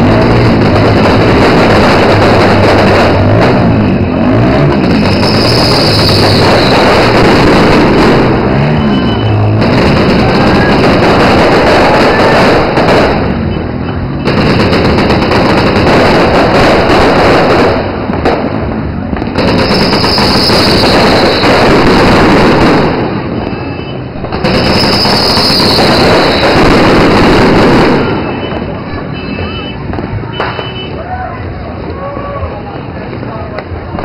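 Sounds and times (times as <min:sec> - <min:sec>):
fireworks crackling bangs: 0:00.0 - 0:32.0, 0:33.1 - 0:34.0.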